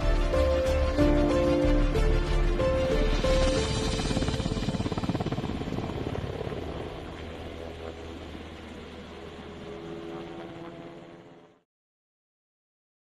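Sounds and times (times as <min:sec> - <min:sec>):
helicopter rotor chop: 0:00.0 - 0:11.6.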